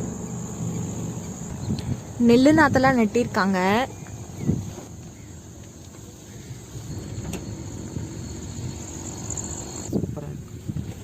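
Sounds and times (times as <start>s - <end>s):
engine and tyres rumbling: 0.0s - 11.0s.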